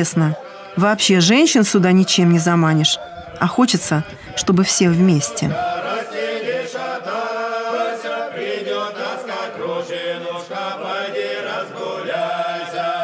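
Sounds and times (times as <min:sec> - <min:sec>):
choir singing slow chant: 0:00.0 - 0:13.0.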